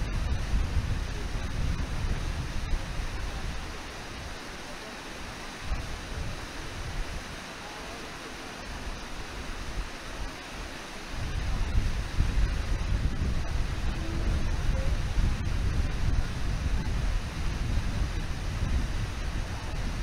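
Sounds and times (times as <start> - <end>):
water rushing over falls: 0.0 - 20.0
wind rumble on microphone: 0.0 - 20.0.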